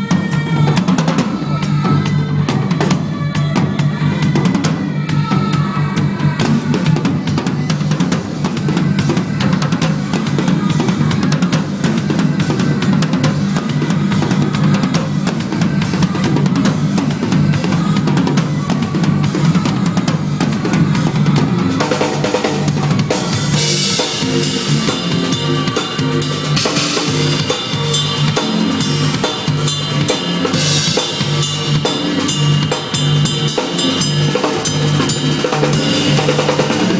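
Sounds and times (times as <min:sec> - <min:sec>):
backing music: 0:00.0 - 0:36.9
drum kit playing: 0:00.0 - 0:36.9.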